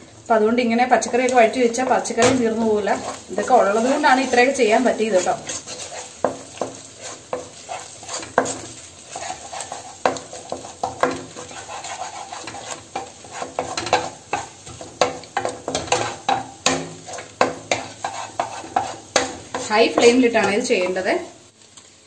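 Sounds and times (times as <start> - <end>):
eggs sizzling in oil: 0.0 - 22.0
wooden spatula scraping a pan: 1.0 - 21.0.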